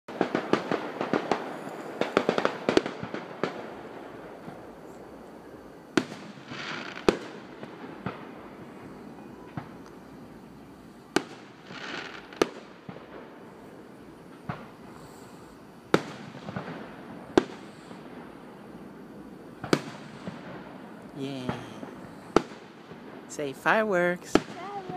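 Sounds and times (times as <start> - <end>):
firework crackling: 0.1 - 24.9
firework shells bursting: 0.1 - 24.9.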